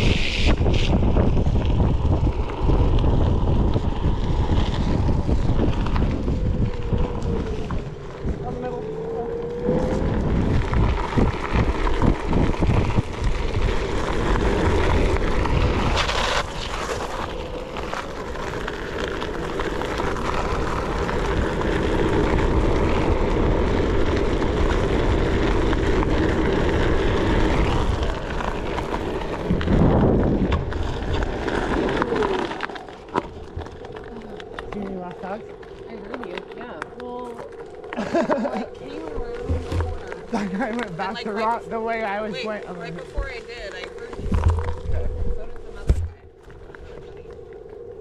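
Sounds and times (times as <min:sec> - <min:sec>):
electric motor hum: 0:00.0 - 0:48.0
tyre rumbling on gravel: 0:00.0 - 0:48.0
wind on microphone: 0:00.0 - 0:48.0.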